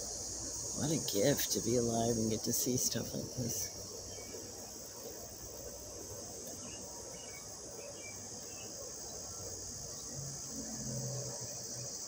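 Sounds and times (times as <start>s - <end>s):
air conditioner hum: 0.0s - 12.0s
crickets and cicadas shrilling: 0.0s - 12.0s.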